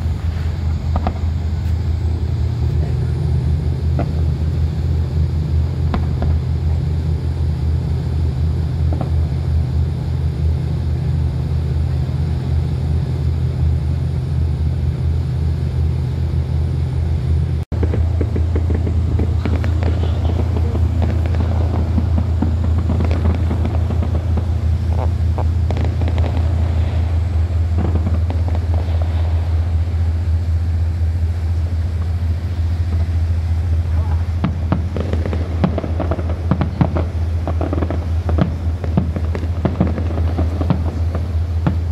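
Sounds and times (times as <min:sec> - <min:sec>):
distant fireworks crackling: 0:00.0 - 0:41.9
low rumble: 0:00.0 - 0:41.9.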